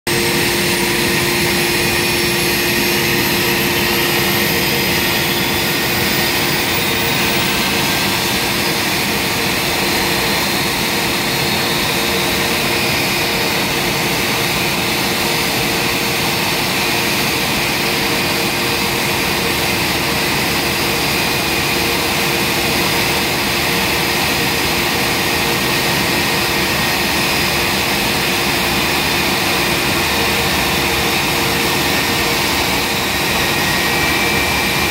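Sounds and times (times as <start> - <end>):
constant low hum: 0.1 - 34.9
jet engine whine: 0.1 - 34.9
loud engine roar: 0.1 - 34.9.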